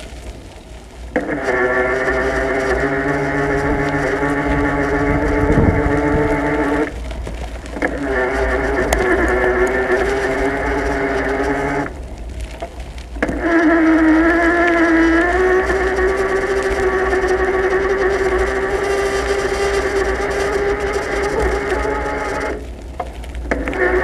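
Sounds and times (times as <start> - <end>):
small motor whine: 0.0 - 12.0, 13.2 - 24.0
low rumble: 0.0 - 24.0.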